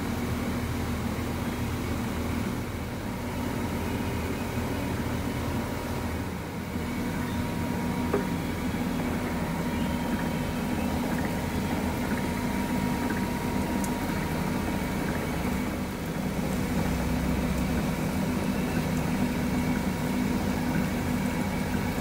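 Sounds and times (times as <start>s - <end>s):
faint steady whine: 0.0s - 22.0s
machinery motor hum: 0.0s - 22.0s.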